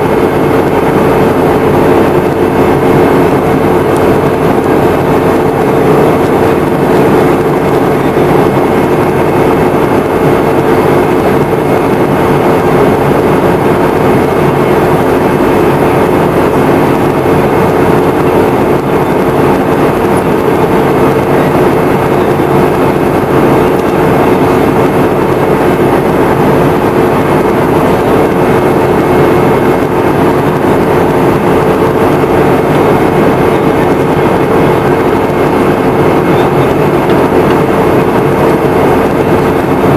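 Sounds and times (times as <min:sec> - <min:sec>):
jet engines humming: 0:00.0 - 0:39.9
loud airflow rush: 0:00.0 - 0:39.9.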